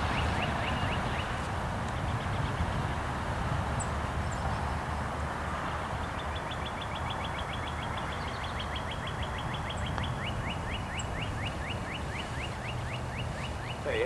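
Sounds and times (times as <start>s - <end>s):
songbird singing: 0.0s - 3.0s, 3.7s - 14.0s.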